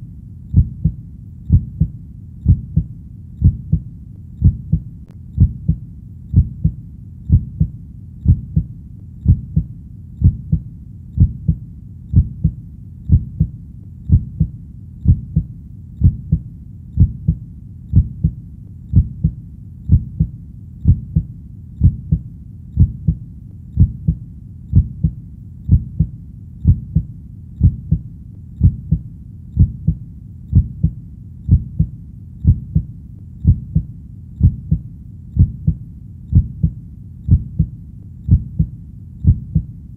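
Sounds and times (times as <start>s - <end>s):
heartbeat thumps: 0.0s - 39.8s.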